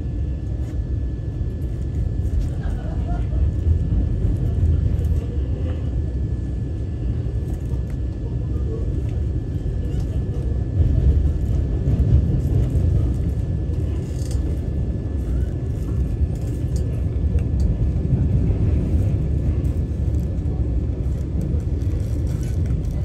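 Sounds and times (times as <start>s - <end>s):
train rumbling on track: 1.5s - 23.0s.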